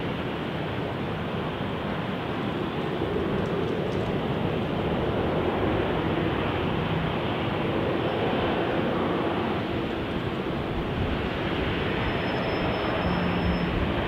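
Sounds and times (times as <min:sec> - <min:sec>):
distant jet engine noise: 0:00.0 - 0:14.0.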